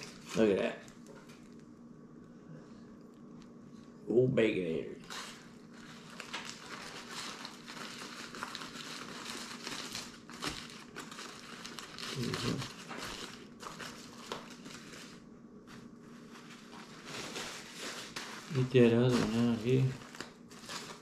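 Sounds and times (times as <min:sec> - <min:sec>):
foil wrapper crinkling: 0:00.0 - 0:01.6, 0:05.0 - 0:21.0.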